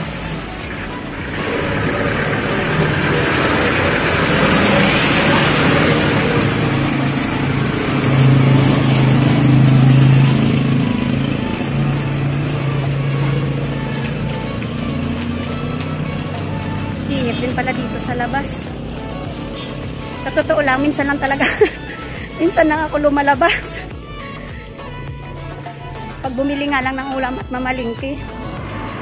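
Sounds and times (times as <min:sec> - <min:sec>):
traffic noise: 0:00.0 - 0:29.0
vehicle engine humming: 0:00.0 - 0:29.0.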